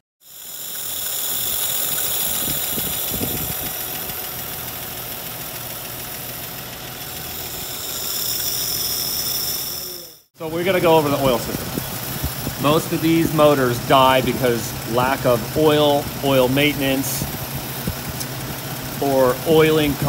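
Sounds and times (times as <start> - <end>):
engine idling: 0.2 - 20.0.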